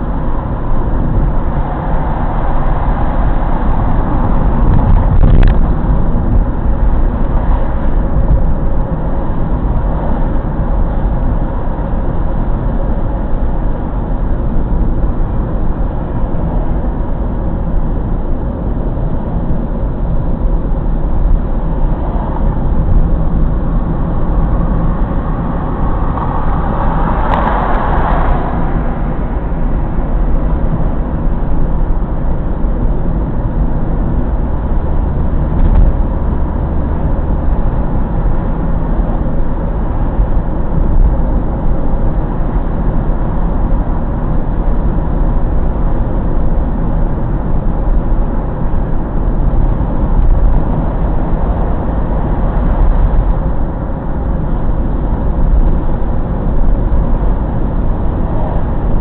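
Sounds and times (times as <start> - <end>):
car road noise rumble: 0.0 - 59.0.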